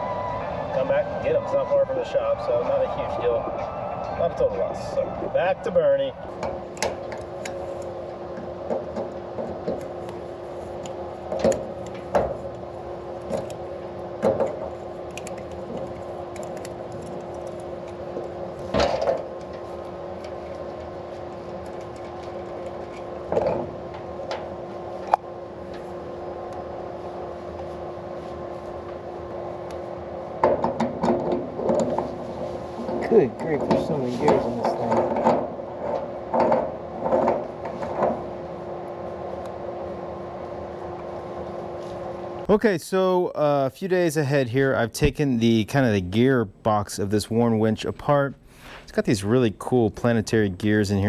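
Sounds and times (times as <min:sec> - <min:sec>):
electrical hum: 0:00.0 - 0:51.0.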